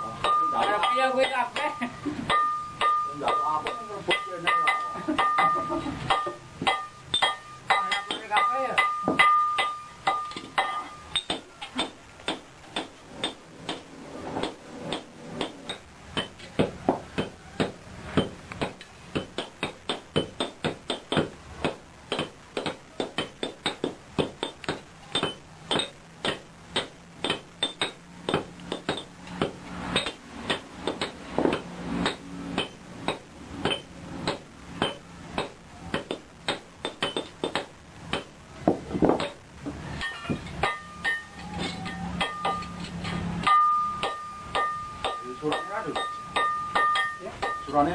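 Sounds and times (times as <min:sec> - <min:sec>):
hammer striking iron on anvil: 0:00.0 - 0:39.4, 0:40.0 - 0:47.9.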